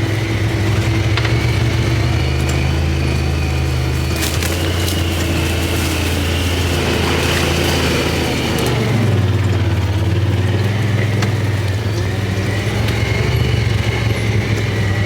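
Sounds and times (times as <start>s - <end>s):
small buggy engine running: 0.0s - 15.0s.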